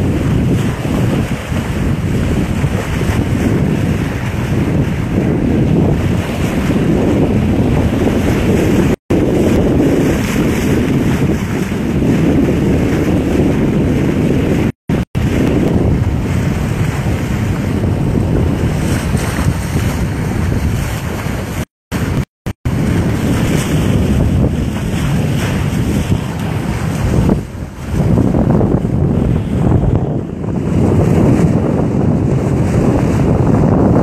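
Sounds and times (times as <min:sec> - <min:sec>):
water rushing past hull: 0:00.0 - 0:34.0
wind buffeting microphone: 0:00.0 - 0:34.0.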